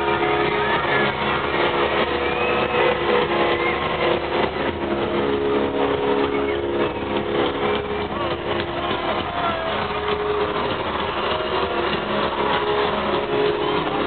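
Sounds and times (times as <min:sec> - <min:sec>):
distorted live pop-punk band: 0:00.0 - 0:14.0.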